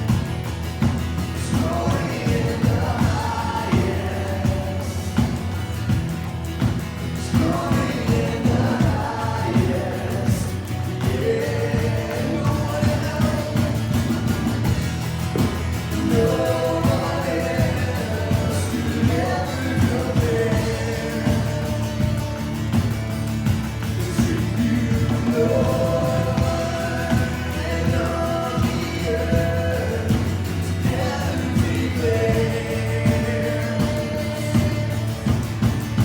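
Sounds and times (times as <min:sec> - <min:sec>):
low bass notes: 0:00.0 - 0:36.0
voices singing over a band: 0:00.0 - 0:36.0.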